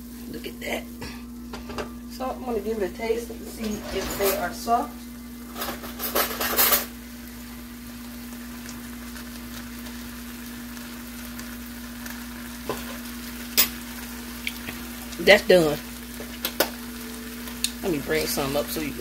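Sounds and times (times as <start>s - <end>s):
low hum: 0.0s - 19.0s
rice sizzling in a skillet: 0.0s - 19.0s.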